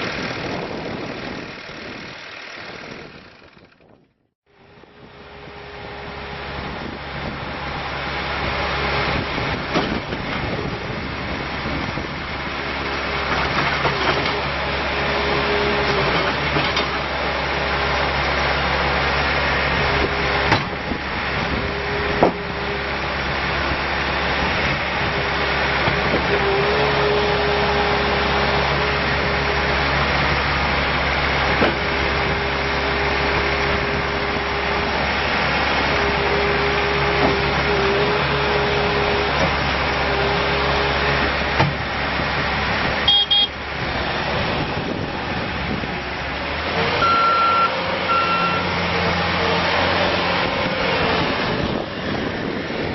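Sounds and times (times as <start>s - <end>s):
diesel engine running: 0.0s - 52.9s
engine whine: 0.0s - 52.9s.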